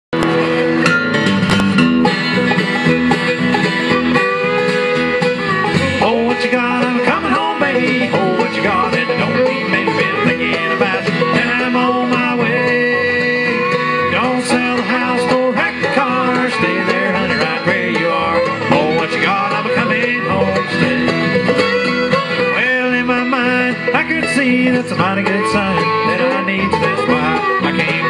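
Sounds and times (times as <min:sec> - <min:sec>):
bluegrass band playing: 0:00.1 - 0:28.0.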